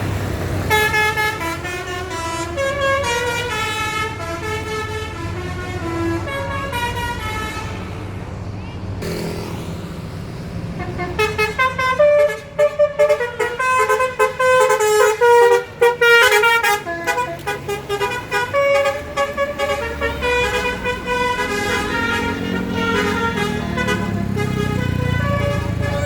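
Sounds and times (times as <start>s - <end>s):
bus engine rumble: 0.0s - 26.0s
bus horn playing a quick tune: 0.6s - 7.9s, 10.8s - 26.0s.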